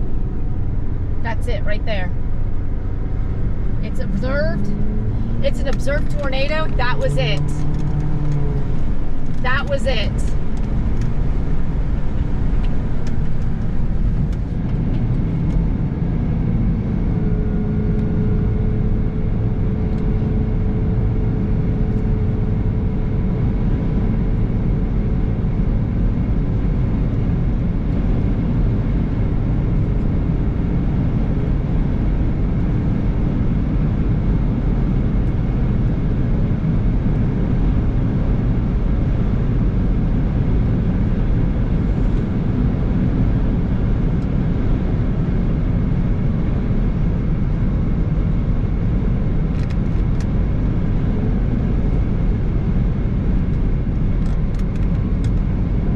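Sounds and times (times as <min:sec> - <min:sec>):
car interior road rumble: 0:00.0 - 0:55.9
faint steady whine: 0:00.0 - 0:55.9.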